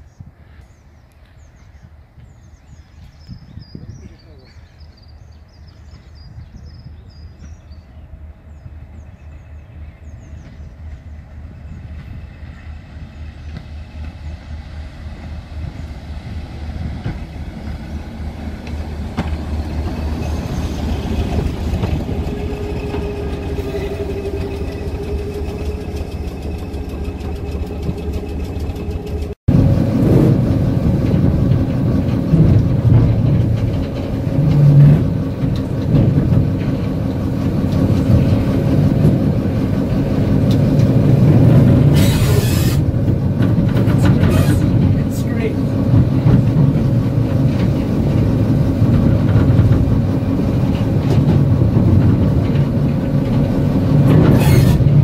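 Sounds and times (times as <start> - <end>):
diesel train approaching: 0.0 - 55.0
diesel engine rumbling in cab: 2.4 - 55.0
track noise: 7.9 - 55.0.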